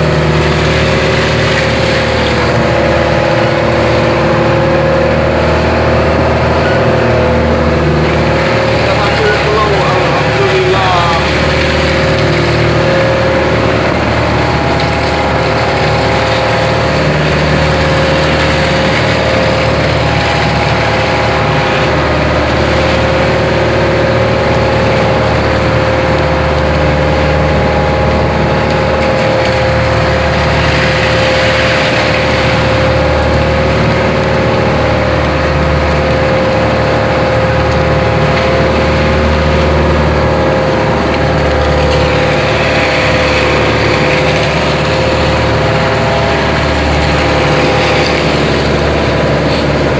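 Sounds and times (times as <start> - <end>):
boat engine droning: 0.0 - 49.9.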